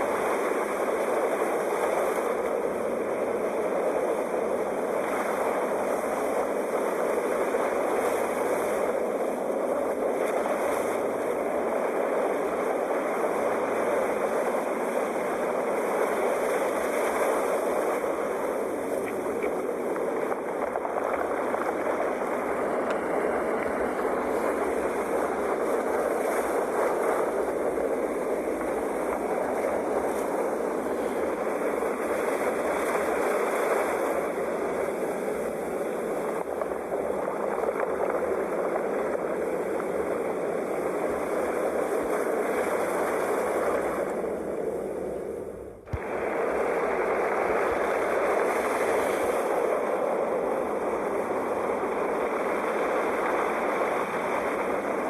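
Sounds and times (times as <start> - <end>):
rush of surf: 0.0 - 55.0.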